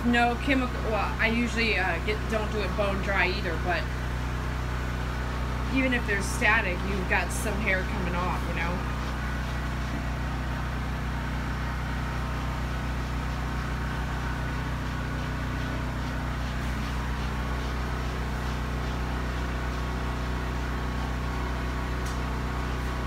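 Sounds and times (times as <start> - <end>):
generator humming: 0.0 - 23.0.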